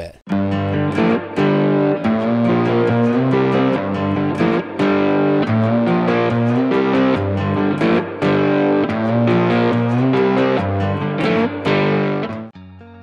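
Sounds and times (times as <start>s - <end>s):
electric guitar music with beat: 0.3s - 13.0s.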